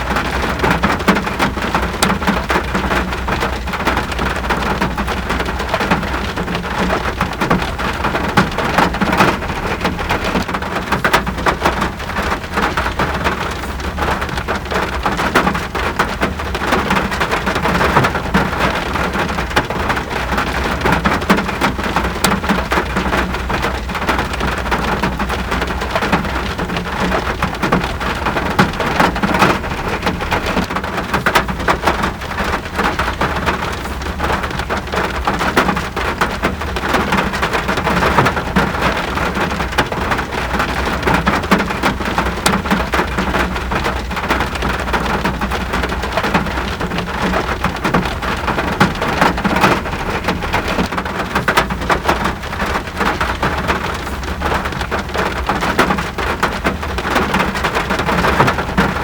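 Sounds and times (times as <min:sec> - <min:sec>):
raindrops pattering: 0:00.0 - 0:59.0.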